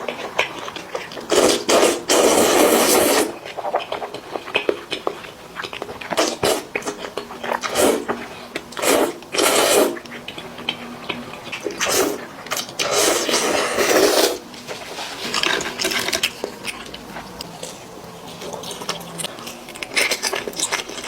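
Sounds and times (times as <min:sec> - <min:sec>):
person chewing chicken: 0:00.0 - 0:21.0.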